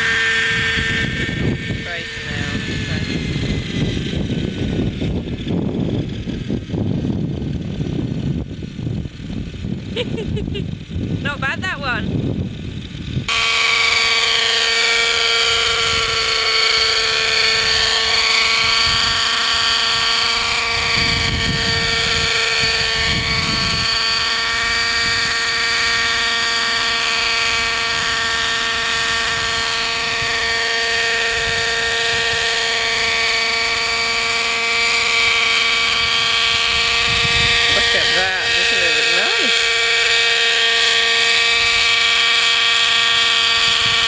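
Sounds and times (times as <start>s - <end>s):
model helicopter engine and rotors: 0.0s - 44.0s.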